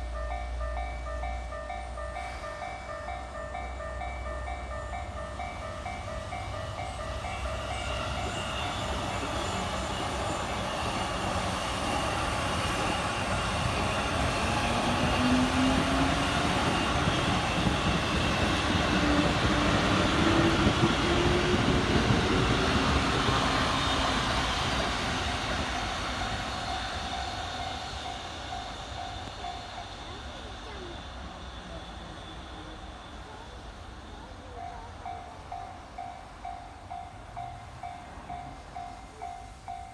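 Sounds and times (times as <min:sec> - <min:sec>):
level crossing warning bell: 0:00.0 - 0:31.1, 0:31.7 - 0:39.9
train motor whine: 0:00.0 - 0:34.6
train wheel and rail noise: 0:00.0 - 0:39.9.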